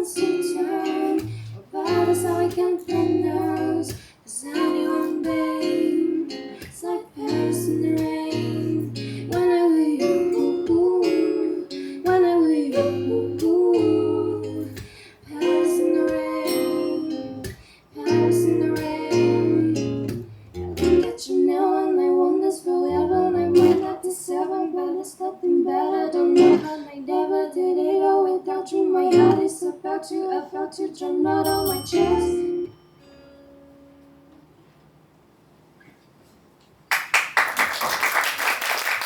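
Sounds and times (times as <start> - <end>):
woman singing a pop ballad: 0.0 - 20.1, 21.0 - 32.7.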